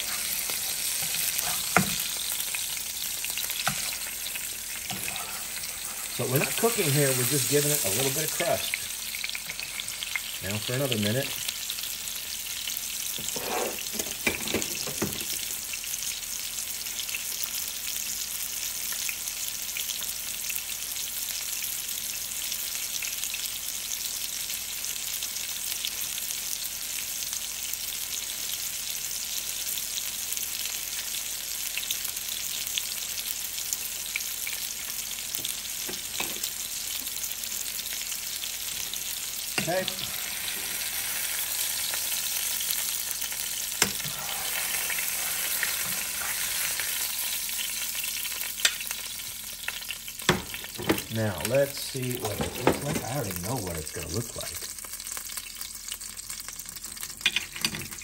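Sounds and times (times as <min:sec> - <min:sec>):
steaks sizzling in a pan: 0:00.0 - 0:58.0.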